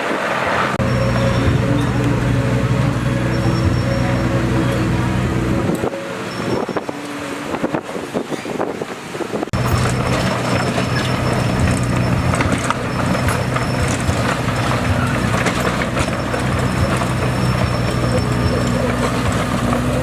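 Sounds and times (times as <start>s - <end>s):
bulldozer diesel engine running: 0.0s - 20.0s
steel tracks clanking: 0.0s - 20.0s.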